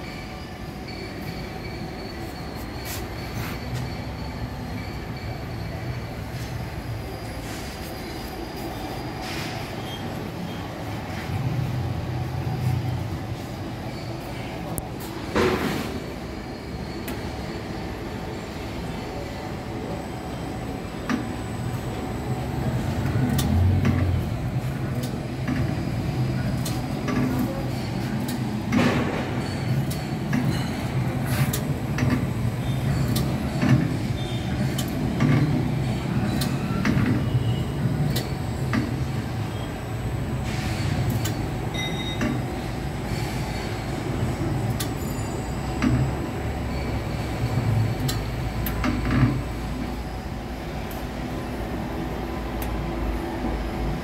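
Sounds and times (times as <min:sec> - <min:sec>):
machine motor rumble: 0:00.0 - 0:54.0.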